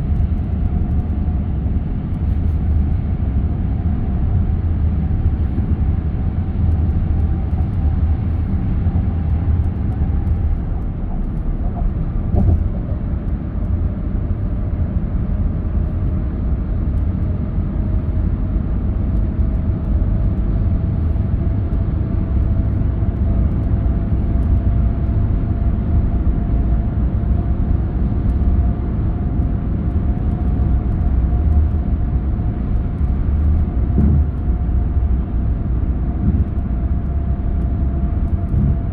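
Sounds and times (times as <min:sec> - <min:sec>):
car tyres and engine rumble: 0:00.0 - 0:38.9.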